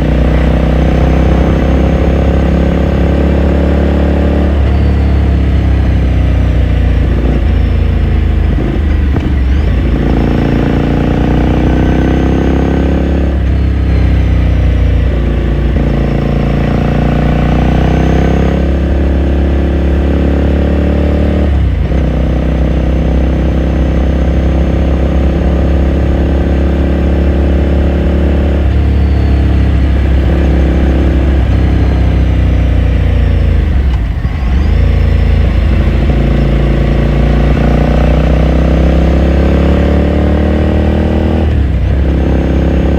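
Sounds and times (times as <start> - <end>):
motorcycle engine shifting gears: 0.0 - 42.9.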